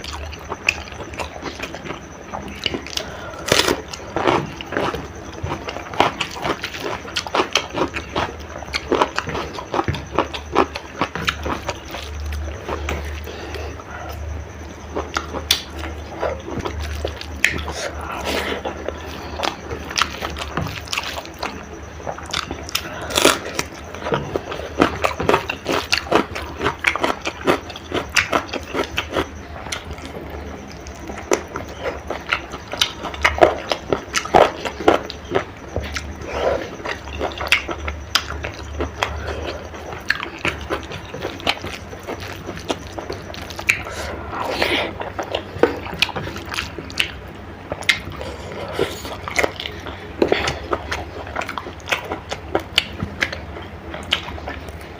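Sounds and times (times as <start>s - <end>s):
wet chewing and lip smacks: 0.0s - 54.9s.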